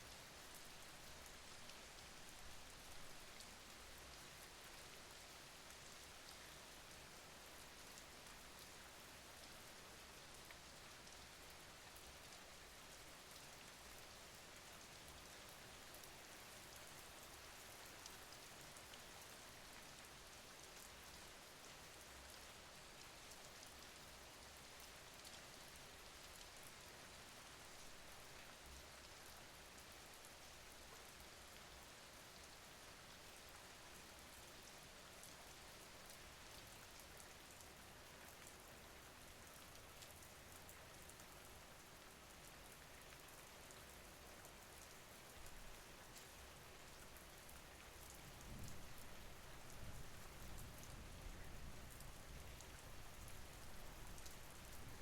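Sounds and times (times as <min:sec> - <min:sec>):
faint steady rain: 0:00.0 - 0:55.0.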